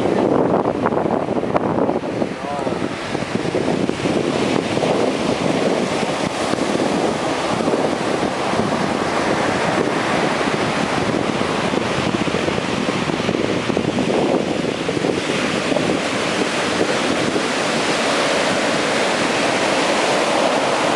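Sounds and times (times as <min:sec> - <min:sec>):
ocean surf breaking: 0:00.0 - 0:20.9
wind buffeting microphone: 0:00.0 - 0:20.9.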